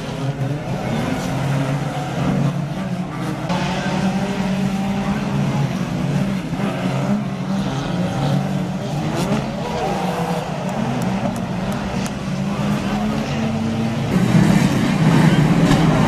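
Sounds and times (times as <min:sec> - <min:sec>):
racing car engines: 0:00.0 - 0:16.0.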